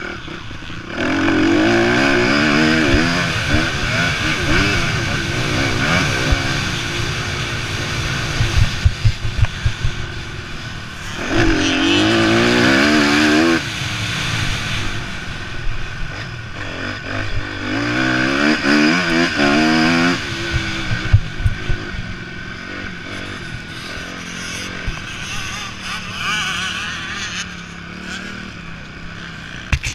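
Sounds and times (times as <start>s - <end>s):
motocross bike engines revving: 0.0s - 29.9s.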